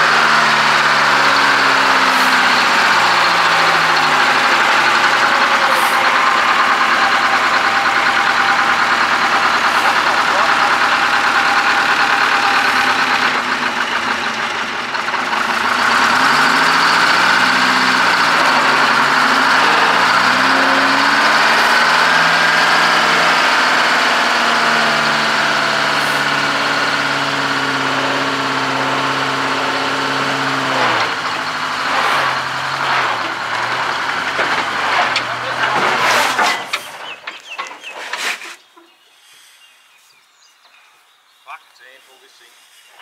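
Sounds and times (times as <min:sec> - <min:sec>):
diesel truck engine revving: 0:00.0 - 0:37.9.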